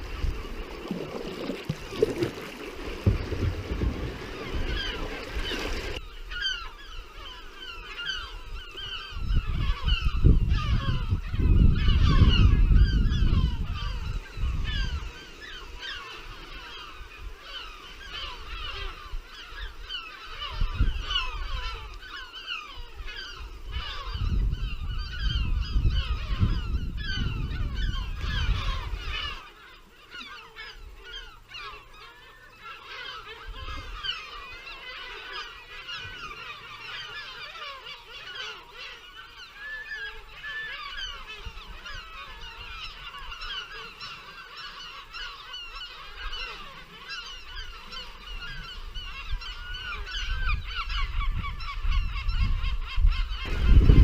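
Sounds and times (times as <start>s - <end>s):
flock of birds calling: 0.0s - 54.0s.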